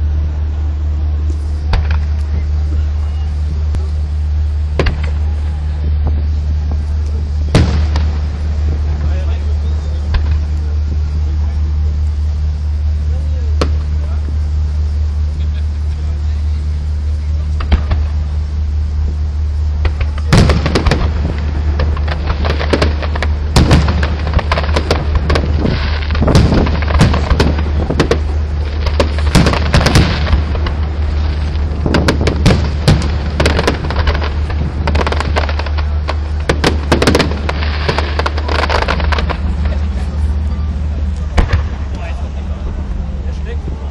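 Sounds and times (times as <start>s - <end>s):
fireworks booming and crackling: 0.0s - 43.9s
steady low rumble: 0.0s - 43.9s.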